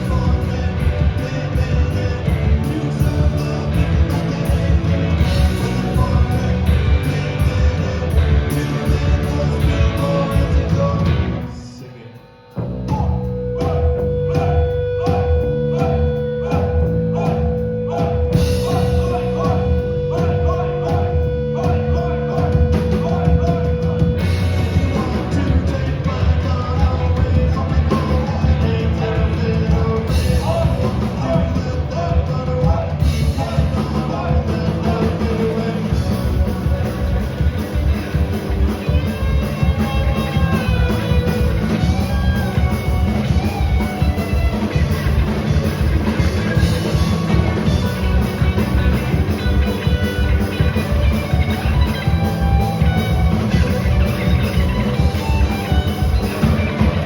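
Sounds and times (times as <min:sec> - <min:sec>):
person singing: 0:00.0 - 0:57.0
punk rock band playing: 0:00.0 - 0:57.0.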